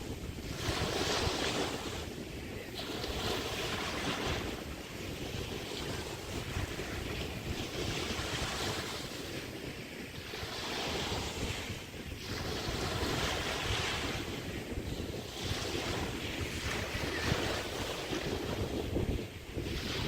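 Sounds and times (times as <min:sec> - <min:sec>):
small waves breaking on beach: 0:00.0 - 0:20.0
wind rumbling on microphone: 0:00.0 - 0:20.0.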